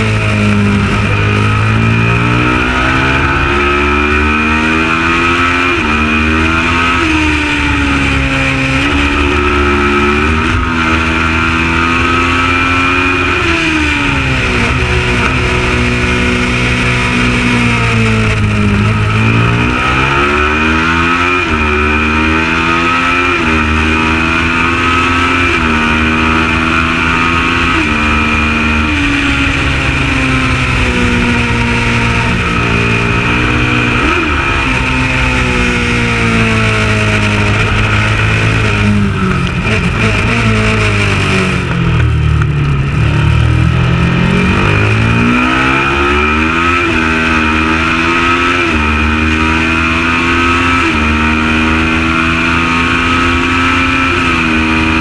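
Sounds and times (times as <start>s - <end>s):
race engine revving and shifting: 0.0s - 55.0s.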